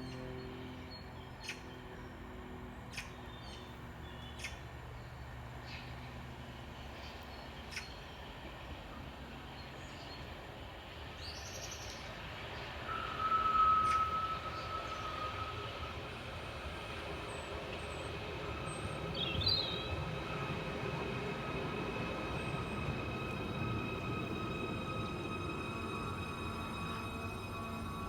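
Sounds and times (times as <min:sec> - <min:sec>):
train rumble: 0:00.0 - 0:28.0
electric train whine: 0:04.7 - 0:28.0.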